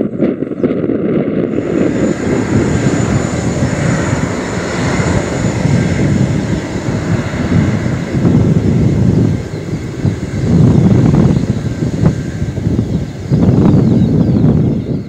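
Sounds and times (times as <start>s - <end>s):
high engine whine: 0.0s - 15.0s
jet engine rushing noise: 0.0s - 15.0s.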